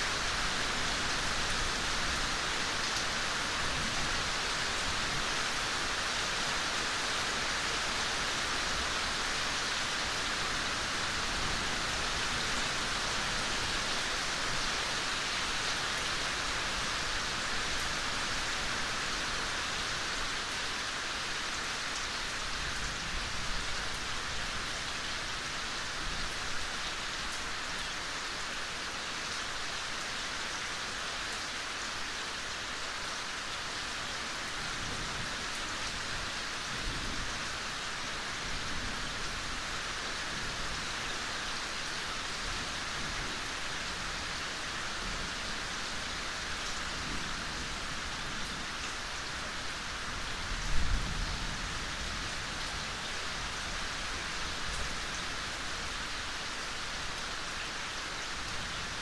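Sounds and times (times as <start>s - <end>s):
soft rain falling: 0.0s - 59.0s.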